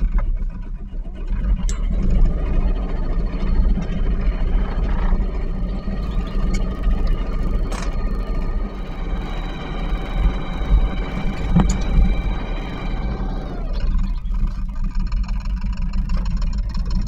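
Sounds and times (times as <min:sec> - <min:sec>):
boat diesel engine running: 0:00.0 - 0:17.0.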